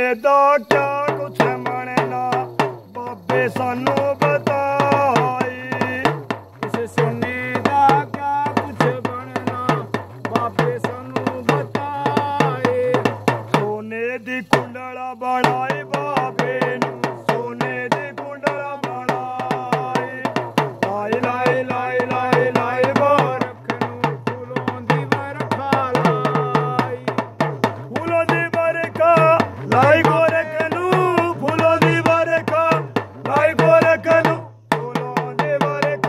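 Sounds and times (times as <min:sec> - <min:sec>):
man singing folk song: 0:00.0 - 0:36.0
hand drum beating fast rhythm: 0:00.7 - 0:13.7, 0:15.4 - 0:36.0.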